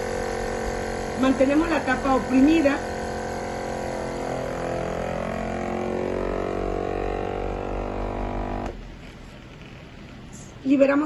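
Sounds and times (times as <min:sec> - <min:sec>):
vacuum sealer pump humming: 0:00.0 - 0:10.6.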